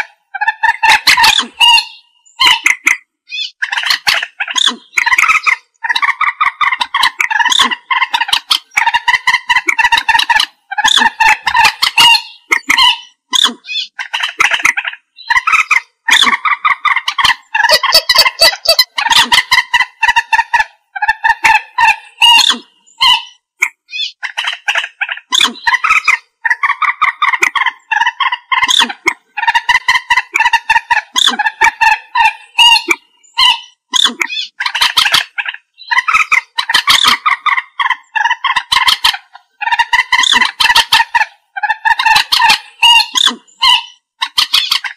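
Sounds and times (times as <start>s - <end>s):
moorhen calling: 0.0s - 44.9s.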